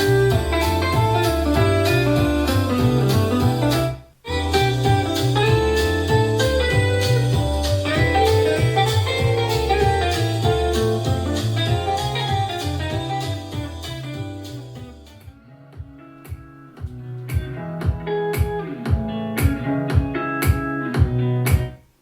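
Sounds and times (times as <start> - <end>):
guitar music with drum beat: 0.0 - 22.0.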